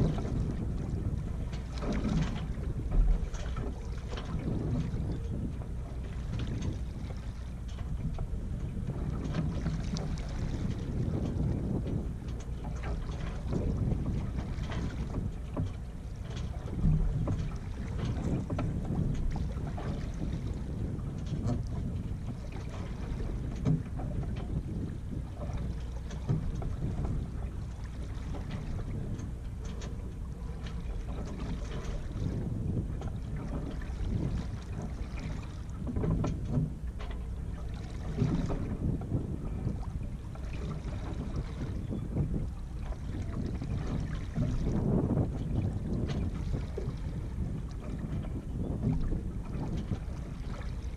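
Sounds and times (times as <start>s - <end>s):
water splashing along hull: 0.0s - 50.9s
wind rumble on microphone: 0.0s - 50.9s.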